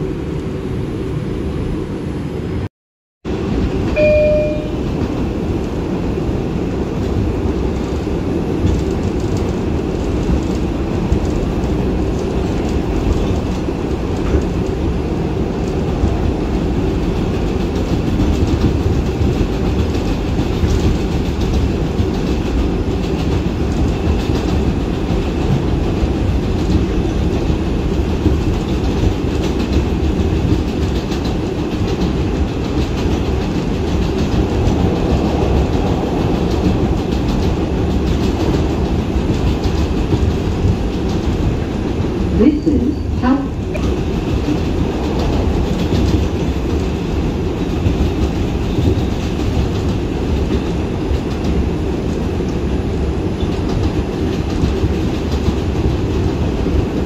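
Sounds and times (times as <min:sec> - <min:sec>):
train wheels rumbling on rails: 0:03.3 - 0:57.0.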